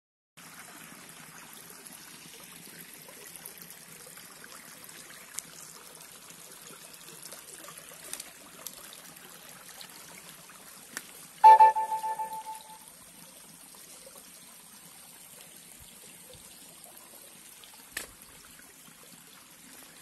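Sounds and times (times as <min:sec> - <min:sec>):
stream trickling over rocks: 0:00.4 - 0:20.0.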